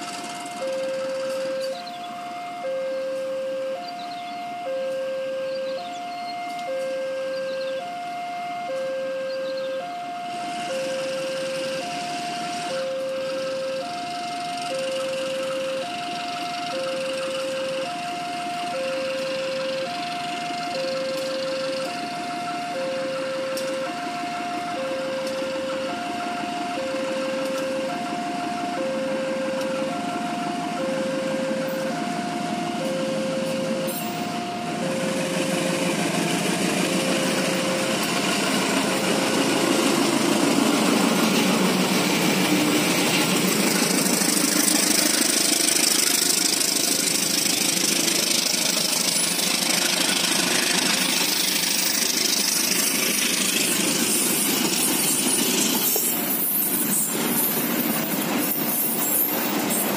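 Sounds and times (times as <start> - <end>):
train wheels rolling on rails: 0.0 - 2.5, 10.3 - 59.9
diesel locomotive engine: 0.0 - 59.9.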